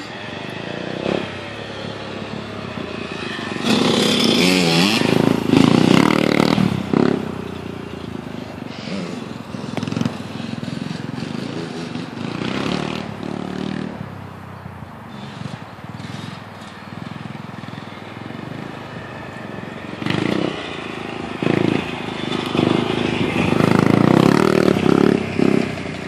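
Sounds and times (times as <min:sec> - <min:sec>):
dirt bike engines revving past: 0:00.0 - 0:26.0.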